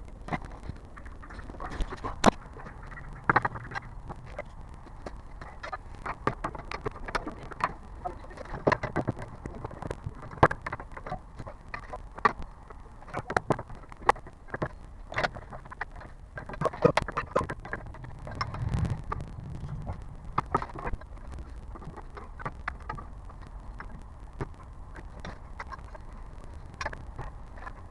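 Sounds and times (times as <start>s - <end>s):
low road rumble: 0.0s - 27.9s.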